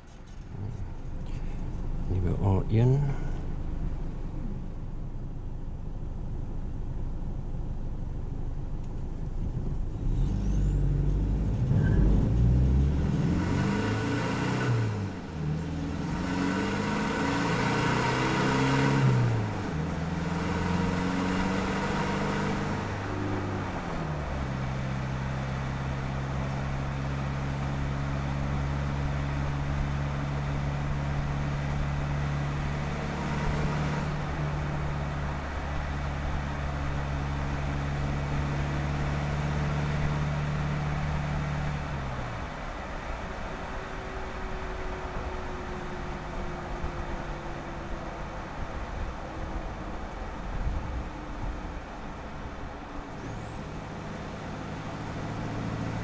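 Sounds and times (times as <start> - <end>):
diesel truck engine and exhaust: 0.0 - 56.0.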